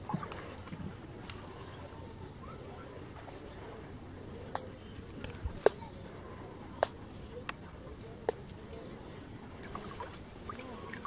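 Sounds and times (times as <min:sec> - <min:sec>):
low outdoor background: 0:00.0 - 0:11.0.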